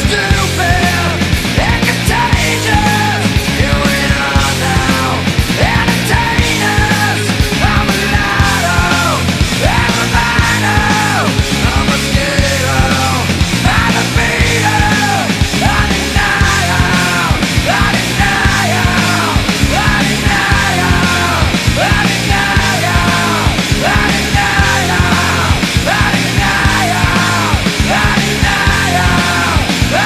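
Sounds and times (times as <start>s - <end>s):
loud rock music: 0.0s - 30.0s
yelled vocals: 0.0s - 30.0s.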